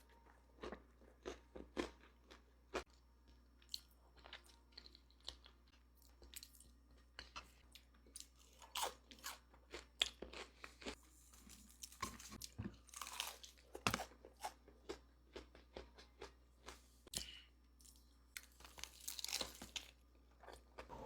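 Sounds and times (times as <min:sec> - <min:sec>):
crunching and chewing crisp food: 0:00.0 - 0:21.0.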